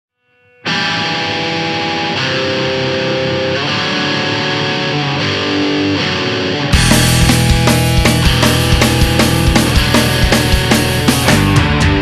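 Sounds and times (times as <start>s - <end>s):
distorted electric guitar chords: 0.4s - 12.0s.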